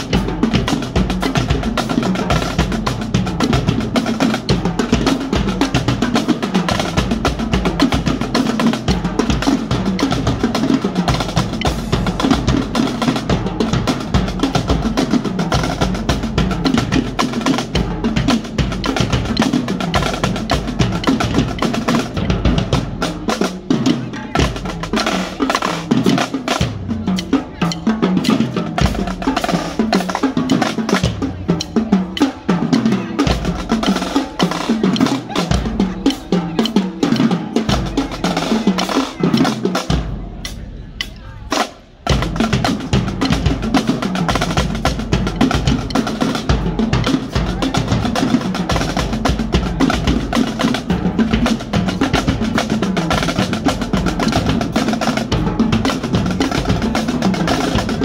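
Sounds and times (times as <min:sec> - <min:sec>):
marching snare drums: 0:00.0 - 0:58.0
tenor drums: 0:00.0 - 0:58.0.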